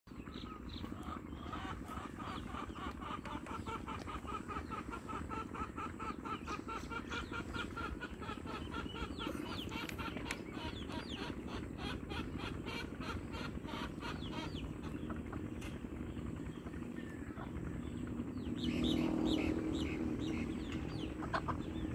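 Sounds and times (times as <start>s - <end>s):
chickens clucking: 0.1s - 21.9s.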